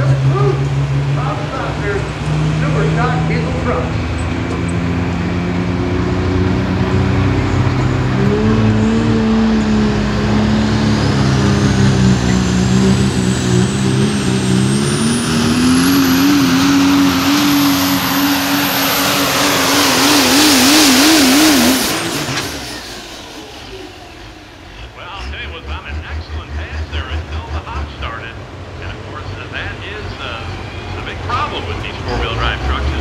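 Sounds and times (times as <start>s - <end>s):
diesel engine at full throttle: 0.0s - 33.0s
high turbo whine: 0.0s - 33.0s.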